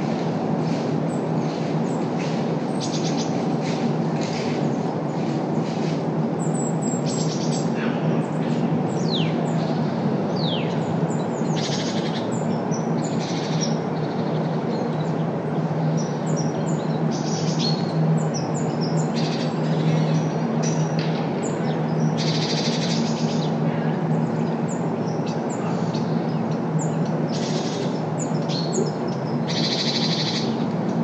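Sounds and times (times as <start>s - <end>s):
low rumble of city traffic: 0.0s - 31.0s
songbirds chirping: 0.0s - 31.0s.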